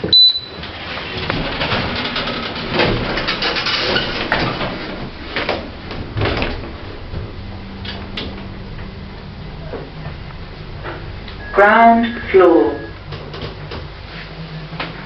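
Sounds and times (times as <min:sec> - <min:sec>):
lift doors rumbling shut: 0:00.0 - 0:14.1
lift low hum: 0:00.1 - 0:15.0.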